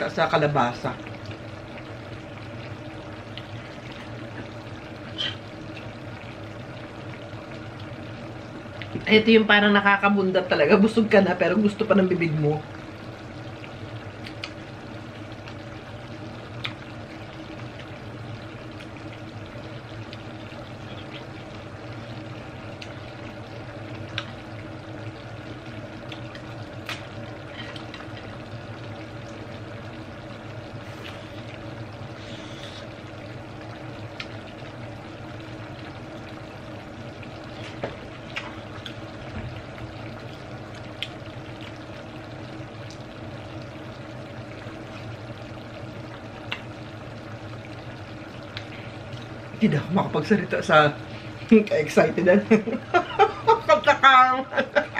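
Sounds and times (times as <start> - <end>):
steady hum with faint tones: 0.0 - 54.9.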